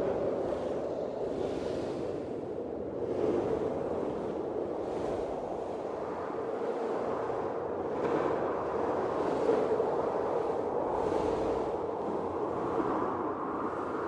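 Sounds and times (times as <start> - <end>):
blizzard wind blowing in gusts: 0.0 - 14.0.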